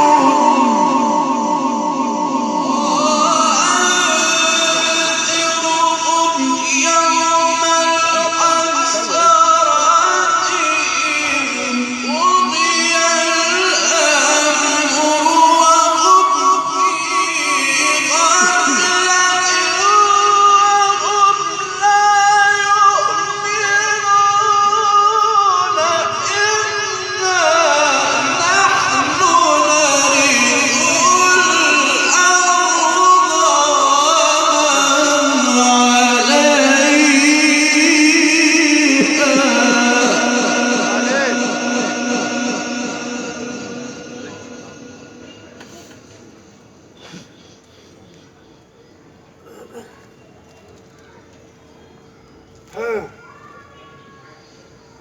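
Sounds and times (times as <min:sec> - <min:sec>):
man chanting through loudspeakers: 0:00.0 - 0:46.3, 0:52.7 - 0:53.4.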